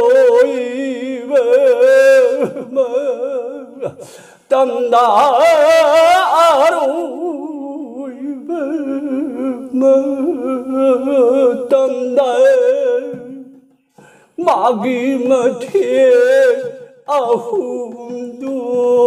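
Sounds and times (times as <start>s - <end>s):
old man singing unaccompanied: 0.0s - 19.0s.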